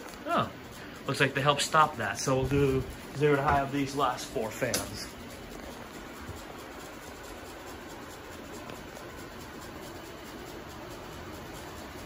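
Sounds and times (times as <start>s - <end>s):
ceiling fans rushing air: 0.0s - 12.0s.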